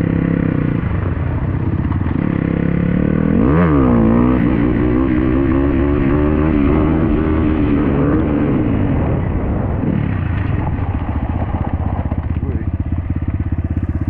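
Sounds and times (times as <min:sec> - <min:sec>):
dirt bike engine revving: 0:01.9 - 0:14.0.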